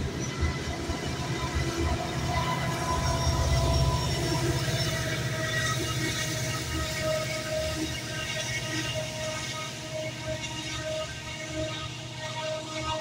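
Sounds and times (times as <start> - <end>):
steady locomotive tones: 0.0 - 11.4
diesel locomotive engine rumble: 0.0 - 12.4.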